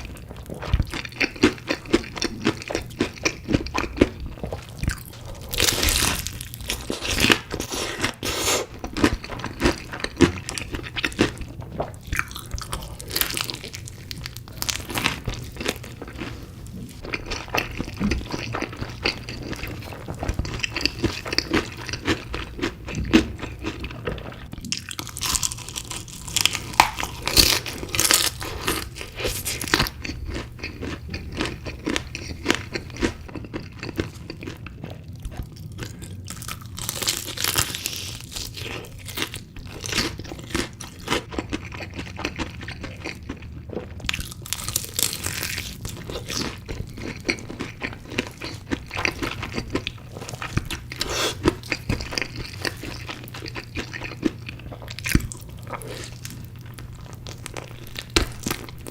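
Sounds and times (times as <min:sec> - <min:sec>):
crunching and chewing chicken: 0:00.0 - 0:58.9
faint low hum: 0:00.0 - 0:58.9.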